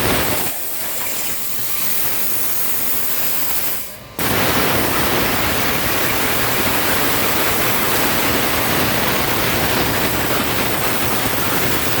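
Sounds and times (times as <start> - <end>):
plasma torch hissing: 0.0 - 12.0.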